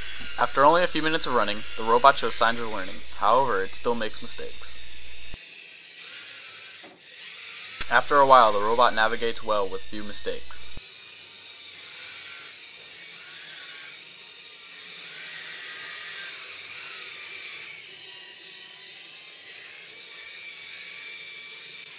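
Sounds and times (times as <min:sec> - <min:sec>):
robot motors whirring: 0:00.0 - 0:21.9.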